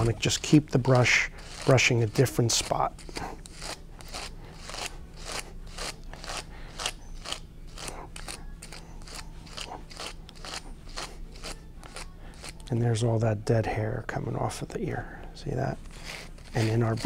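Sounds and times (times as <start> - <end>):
wire brush scratching through hair: 0.0 - 12.6, 15.9 - 17.0.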